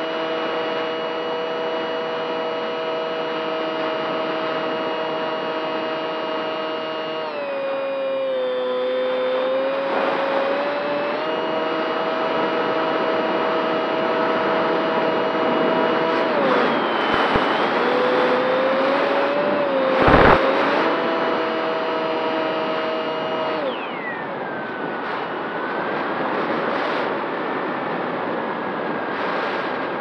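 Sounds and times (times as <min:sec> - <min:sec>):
model plane motor whine: 0:00.0 - 0:30.0.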